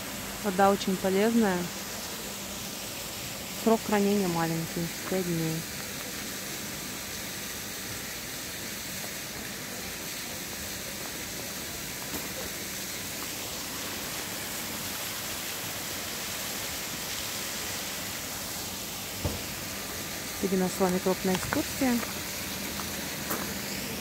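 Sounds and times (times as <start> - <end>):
waterfall rushing hiss: 0.0 - 24.0.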